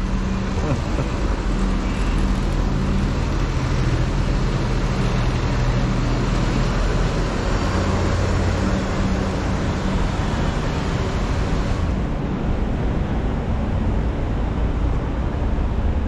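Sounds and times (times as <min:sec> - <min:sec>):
bus engine running: 0:00.0 - 0:16.0
city street traffic: 0:00.0 - 0:16.0.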